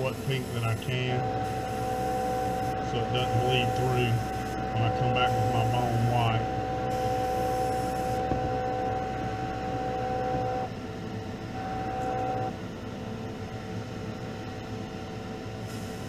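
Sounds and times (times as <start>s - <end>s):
exhaust fan running: 0.0s - 16.0s
two-tone hum: 0.0s - 16.0s.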